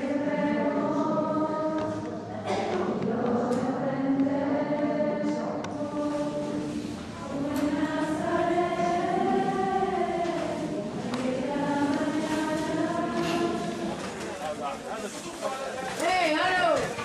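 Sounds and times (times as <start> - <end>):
group singing a hymn in unison: 0.0 - 14.5.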